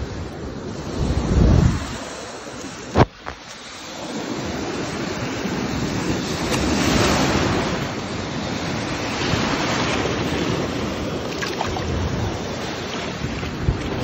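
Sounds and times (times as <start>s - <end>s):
surf washing over sand: 0.0s - 14.0s
wind buffeting microphone: 0.0s - 14.0s.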